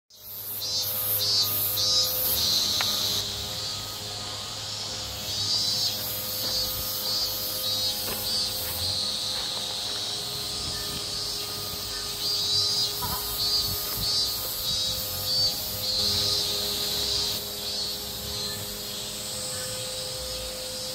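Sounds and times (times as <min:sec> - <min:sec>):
cicadas buzzing in chorus: 0:00.1 - 0:20.9.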